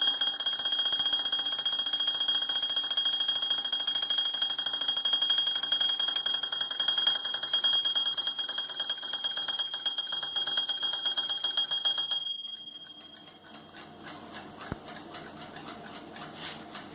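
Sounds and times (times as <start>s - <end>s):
alarm clock ringing: 0.0s - 14.2s.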